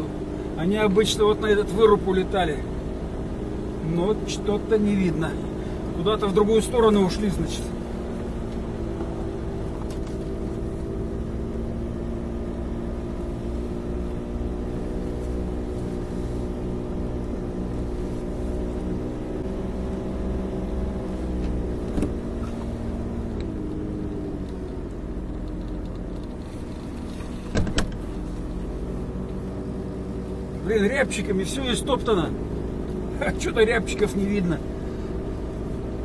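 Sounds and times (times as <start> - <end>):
snowmobile engine running: 0.0 - 36.0.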